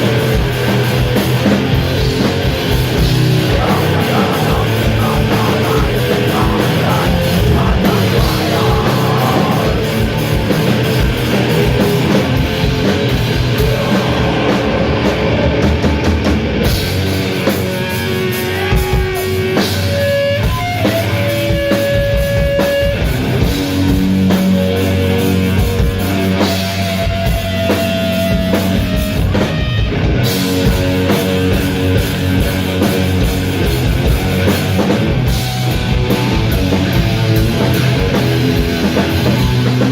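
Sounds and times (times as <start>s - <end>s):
metal band playing live: 0.0s - 39.9s.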